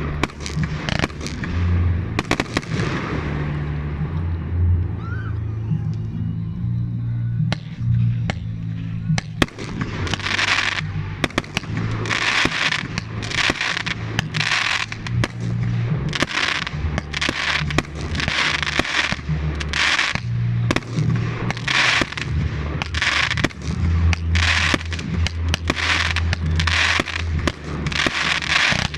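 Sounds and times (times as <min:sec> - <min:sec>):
hissing crackling firework bursts: 0:00.0 - 0:03.9, 0:09.3 - 0:28.9
firework bangs: 0:00.0 - 0:04.6, 0:07.5 - 0:28.9.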